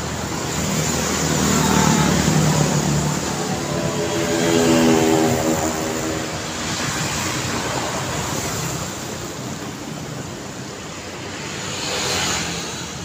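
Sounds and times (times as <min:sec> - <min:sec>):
motor scooters passing: 0:00.0 - 0:13.0
tyres and engines of passing cars: 0:00.0 - 0:13.0.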